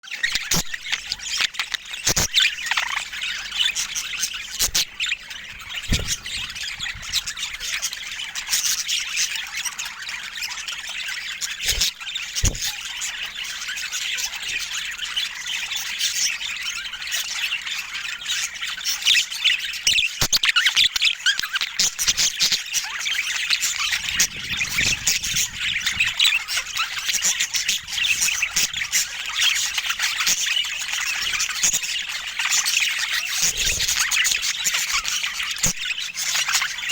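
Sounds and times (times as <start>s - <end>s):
budgerigars chattering: 0.1s - 36.9s.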